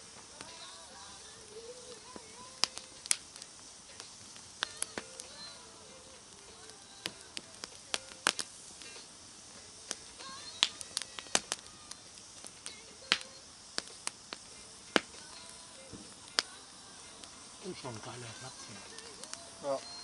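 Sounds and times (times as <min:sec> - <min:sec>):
campfire wood crackling: 0:00.0 - 0:20.0.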